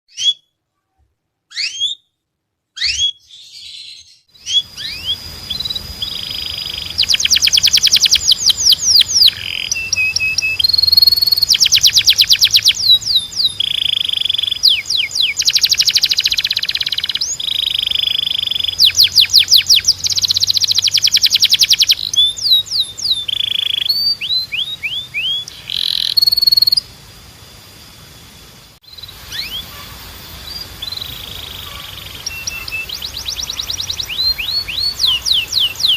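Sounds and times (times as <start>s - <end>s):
canary singing in trills: 0.1s - 0.6s, 1.5s - 2.2s, 2.8s - 26.9s, 28.8s - 35.9s.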